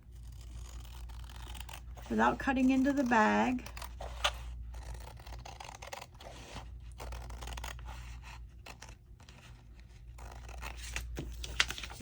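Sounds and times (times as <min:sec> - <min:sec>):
scissors cutting paper: 0:00.0 - 0:12.0.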